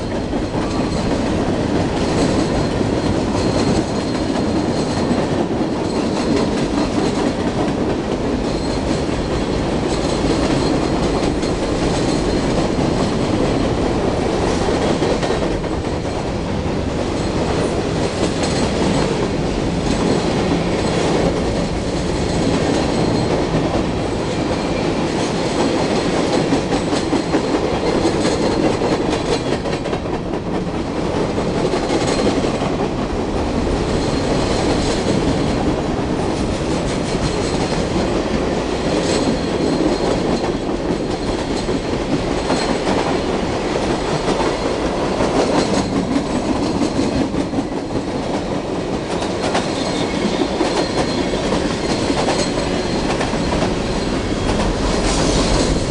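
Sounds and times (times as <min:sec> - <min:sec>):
train wheels clattering over rail joints: 0:00.0 - 0:16.3, 0:17.1 - 0:55.9.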